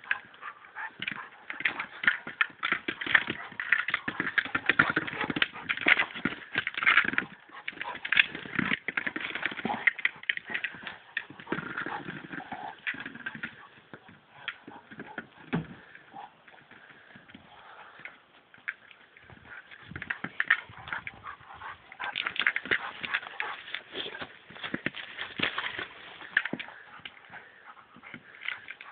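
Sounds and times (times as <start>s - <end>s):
plastic ball knocking and scraping: 0.0s - 28.9s.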